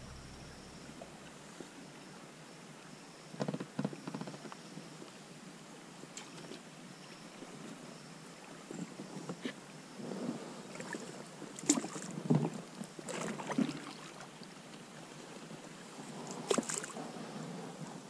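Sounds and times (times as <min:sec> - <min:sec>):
low water and air haze: 0:00.0 - 0:18.0.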